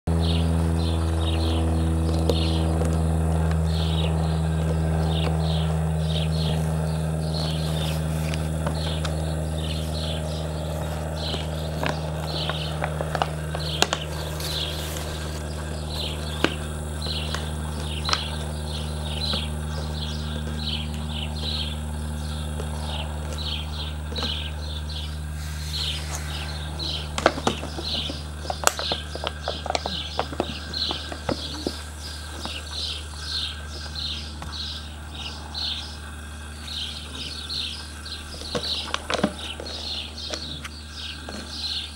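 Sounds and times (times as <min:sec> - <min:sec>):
low hum: 0:00.1 - 0:41.9
high chirping: 0:03.6 - 0:41.9.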